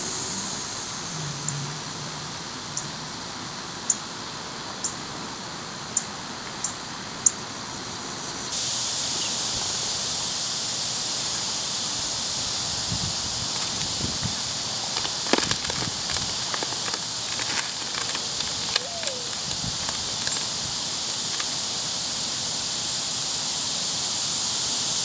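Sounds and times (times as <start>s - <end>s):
insects hissing: 0.0s - 25.0s.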